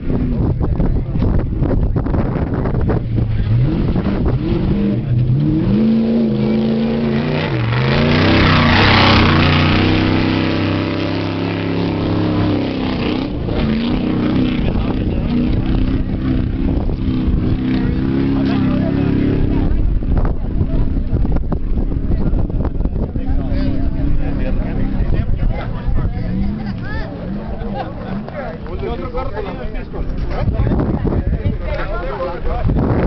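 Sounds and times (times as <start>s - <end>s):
truck engine revving at full throttle: 0.0s - 31.1s.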